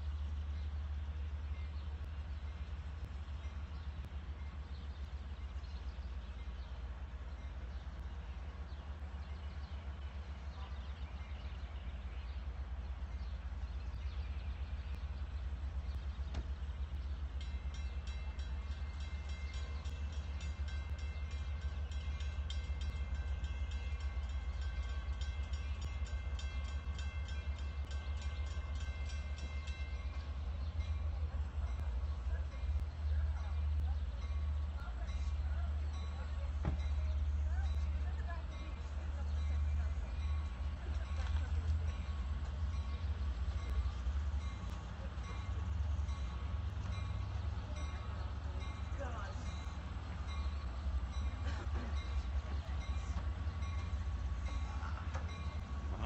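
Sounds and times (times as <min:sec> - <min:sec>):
diesel locomotives idling: 0:00.0 - 0:56.0.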